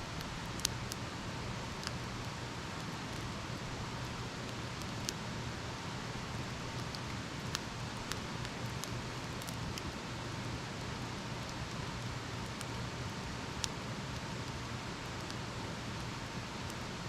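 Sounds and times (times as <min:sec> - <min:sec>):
campfire crackling and popping: 0:00.0 - 0:05.2, 0:06.0 - 0:10.0, 0:11.4 - 0:17.0.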